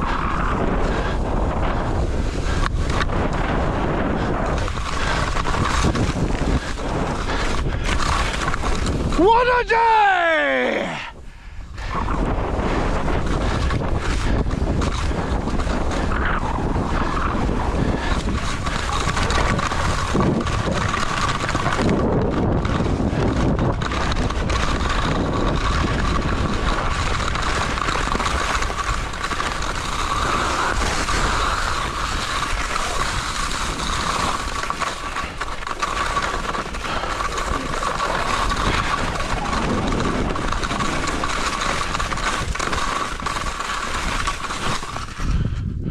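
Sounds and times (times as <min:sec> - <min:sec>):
wind on microphone: 0:00.0 - 0:09.7, 0:10.3 - 0:45.9.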